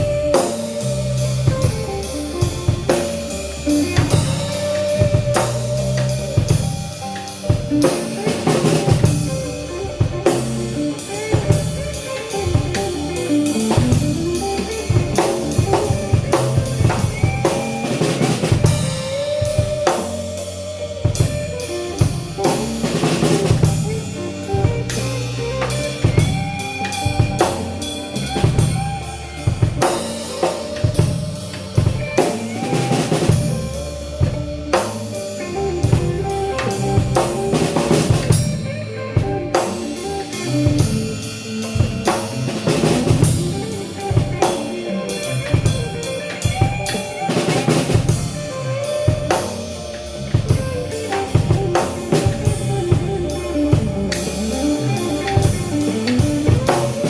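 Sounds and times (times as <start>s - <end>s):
band music: 0.0s - 57.0s
drum kit kick and snare: 0.0s - 57.0s.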